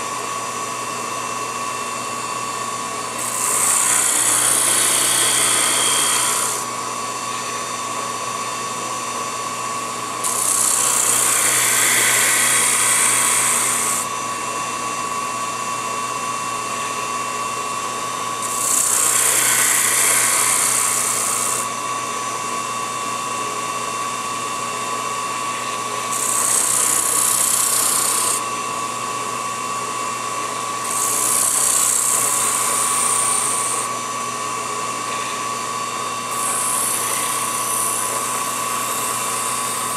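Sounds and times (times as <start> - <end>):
lathe motor whining: 0.0 - 15.6, 17.7 - 22.2, 24.8 - 28.6, 30.4 - 39.9.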